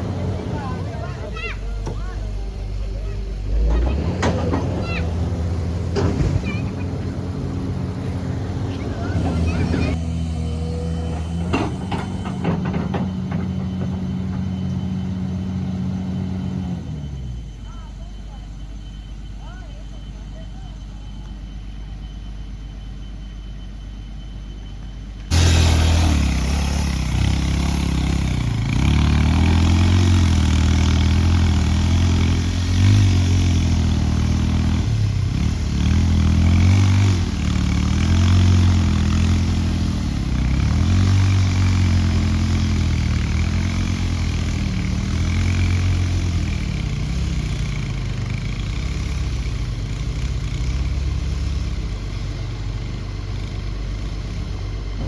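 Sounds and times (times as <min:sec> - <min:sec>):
heavy diesel machine engine working: 0:00.0 - 0:55.0.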